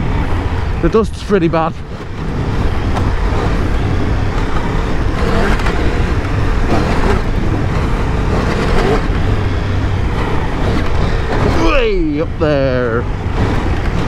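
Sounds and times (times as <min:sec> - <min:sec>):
motorcycle engine revving: 0:00.0 - 0:14.0
wind and tyre noise: 0:00.0 - 0:14.0.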